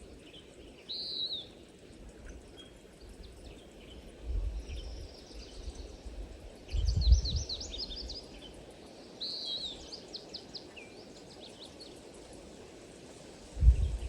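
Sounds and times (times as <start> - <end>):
small birds chirping: 0.0 - 12.4
steady outdoor hiss: 0.0 - 14.0.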